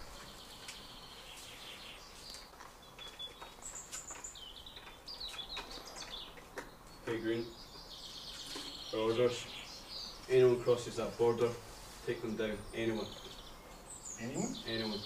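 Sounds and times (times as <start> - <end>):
faint outdoor hiss: 0.0 - 15.0
small birds chirping: 0.0 - 15.0.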